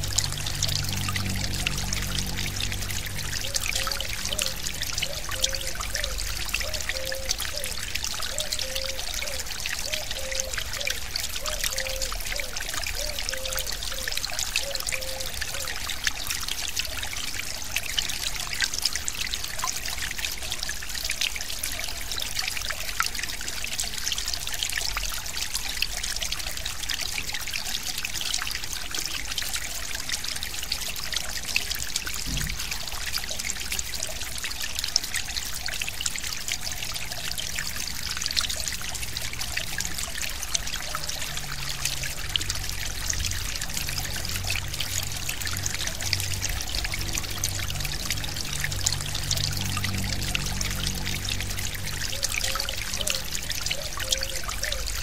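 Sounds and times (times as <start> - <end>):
stream babbling and trickling: 0.0 - 55.0.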